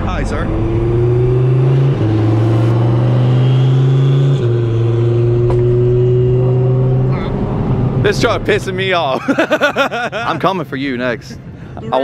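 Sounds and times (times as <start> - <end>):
car engine at full throttle: 0.0 - 10.2.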